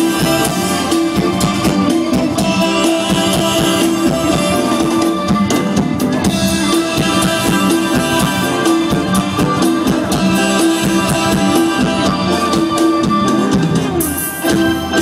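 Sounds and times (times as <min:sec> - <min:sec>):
drum kit beat: 0:00.0 - 0:15.0
live band music over pa: 0:00.0 - 0:15.0.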